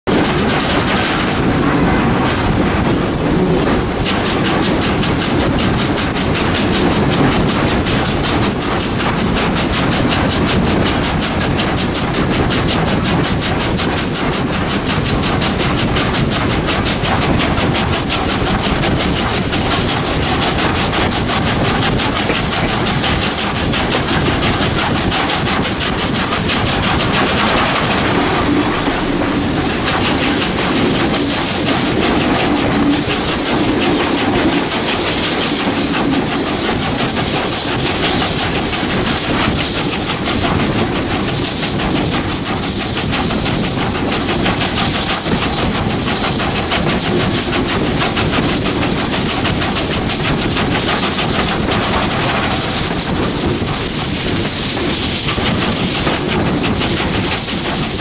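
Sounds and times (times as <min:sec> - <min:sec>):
steam locomotive exhaust beats: 0:00.1 - 0:58.0.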